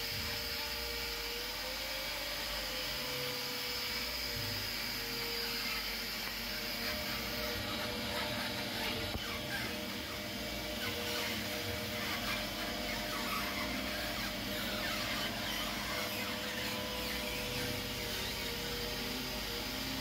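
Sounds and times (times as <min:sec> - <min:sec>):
oil press machine humming and whining: 0:00.0 - 0:20.0.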